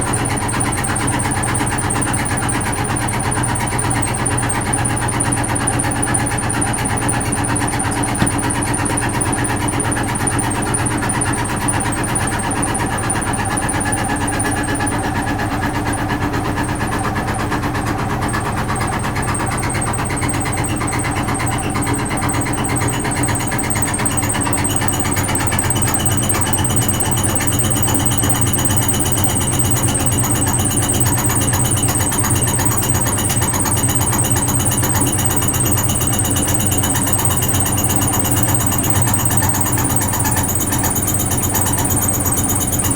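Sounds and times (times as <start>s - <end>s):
high steady whine: 0.0s - 42.9s
washing machine motor hum: 0.0s - 42.9s.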